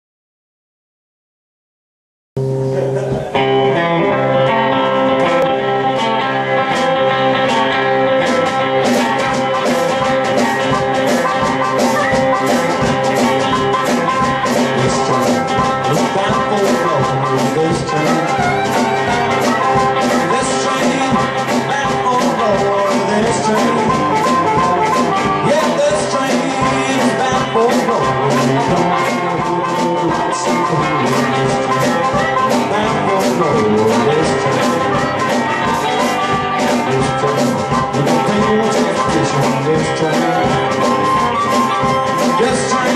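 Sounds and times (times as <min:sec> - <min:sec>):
drum kit steady beat: 0:02.4 - 0:42.9
electric guitar: 0:02.4 - 0:42.9
harmonica: 0:03.4 - 0:42.9.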